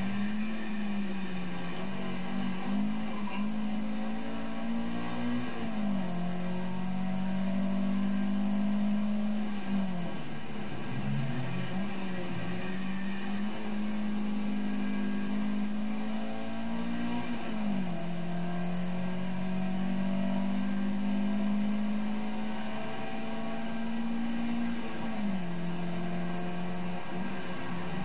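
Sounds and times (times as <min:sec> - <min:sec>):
car engine pulling hard: 0:00.0 - 0:28.0.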